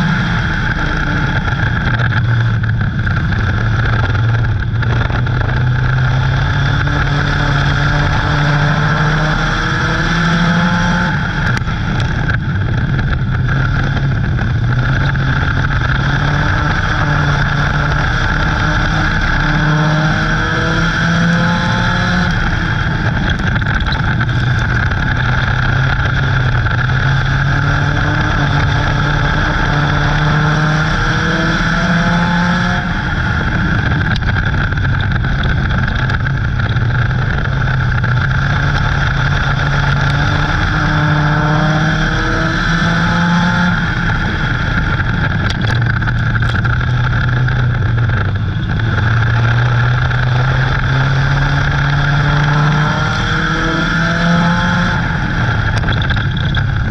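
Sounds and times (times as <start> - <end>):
race car engine revving: 0.0 - 56.9.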